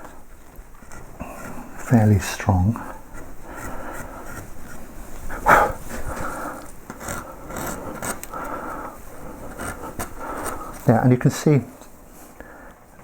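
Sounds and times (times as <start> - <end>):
carving gouge paring wood: 0.0 - 12.0.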